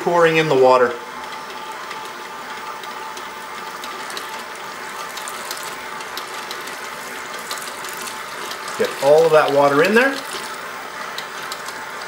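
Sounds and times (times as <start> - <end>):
stand mixer motor whirring: 0.0 - 12.0.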